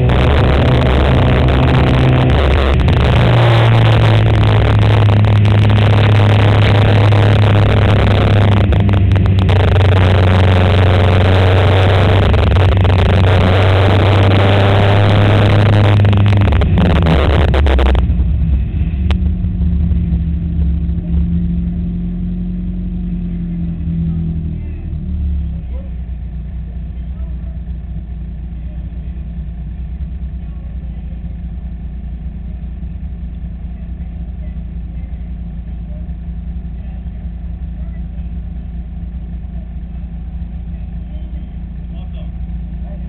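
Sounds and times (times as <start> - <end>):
race car engine running hard: 0.0 - 43.0.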